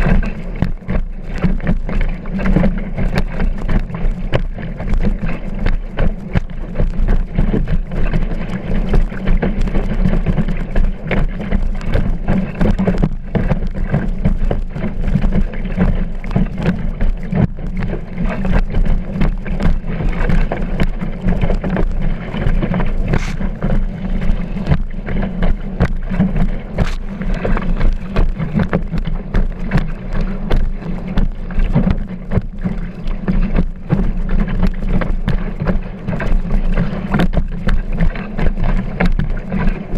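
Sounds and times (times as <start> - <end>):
board slapping over waves: 0.0 - 39.9
water rushing and spraying: 0.0 - 39.9
wind buffeting microphone: 0.0 - 39.9.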